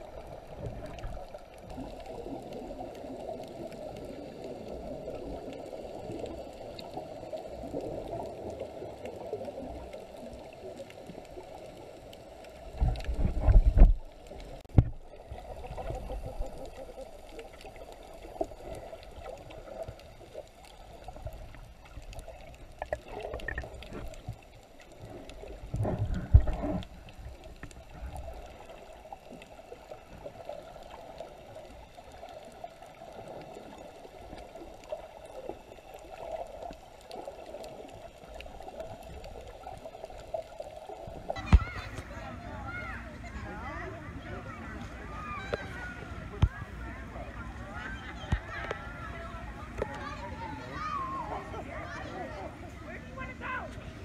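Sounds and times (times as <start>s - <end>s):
low rushes of water: 0.0s - 54.0s
underwater gurgling wash: 0.0s - 54.0s.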